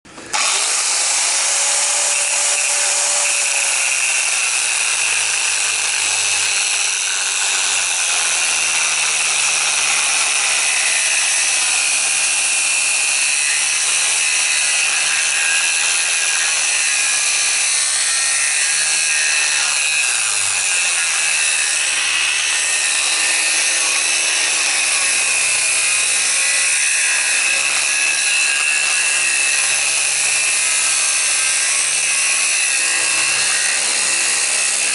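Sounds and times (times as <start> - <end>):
angle grinder cutting steel: 0.1 - 34.9.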